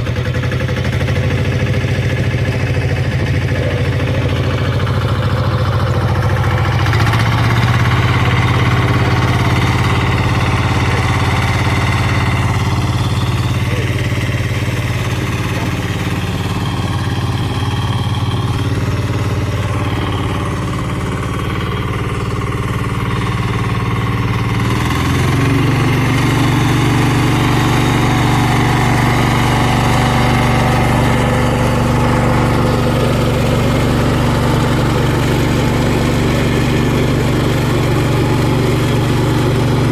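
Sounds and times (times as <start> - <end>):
rotary tiller in soil: 0.0 - 39.9
tractor diesel engine running: 0.0 - 39.9.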